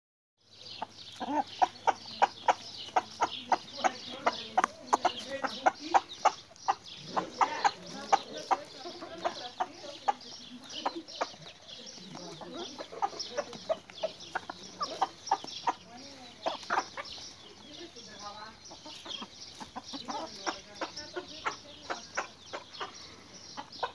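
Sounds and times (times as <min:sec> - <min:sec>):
chickens clucking: 0:00.4 - 0:23.9.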